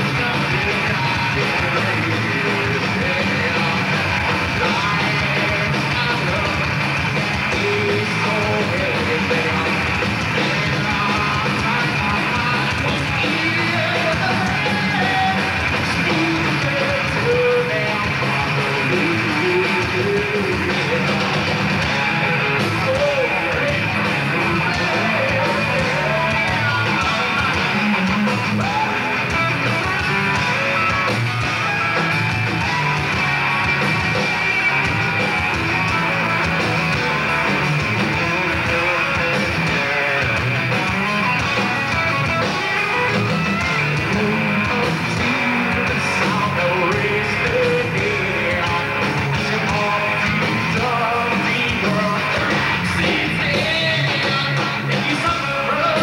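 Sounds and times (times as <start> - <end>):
bass guitar: 0.0 - 56.0
drums: 0.0 - 56.0
electric guitars: 0.0 - 56.0.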